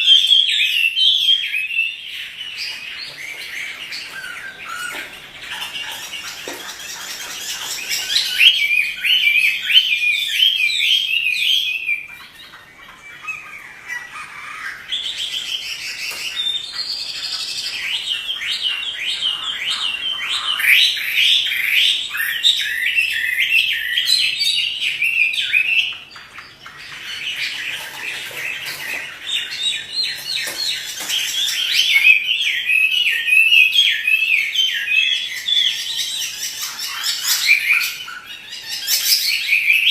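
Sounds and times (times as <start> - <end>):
songbird warbling: 0.0 - 39.9.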